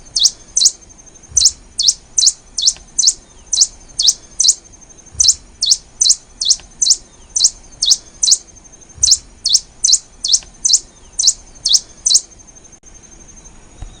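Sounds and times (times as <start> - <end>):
finch calling: 0.0 - 12.4
faint steady high tone: 0.0 - 14.0.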